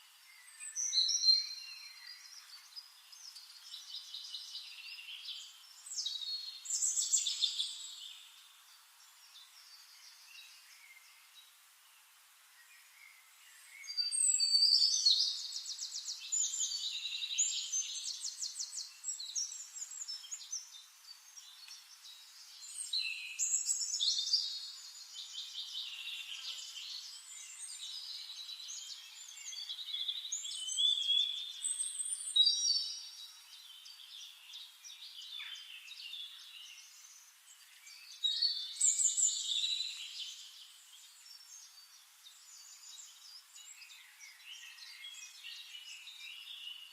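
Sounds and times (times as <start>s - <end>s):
quiet bird chirping: 0.0s - 46.9s.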